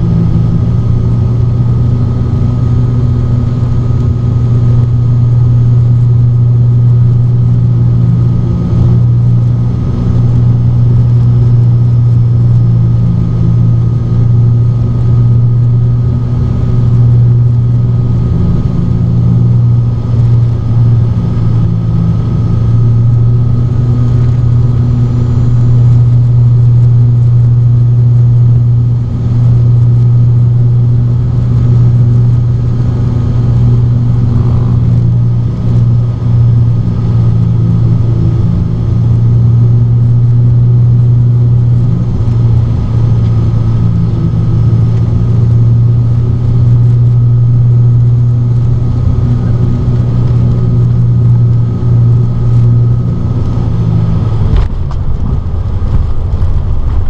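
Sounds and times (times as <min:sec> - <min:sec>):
faint steady whine: 0:00.0 - 0:57.0
turboprop engines droning: 0:00.0 - 0:57.0.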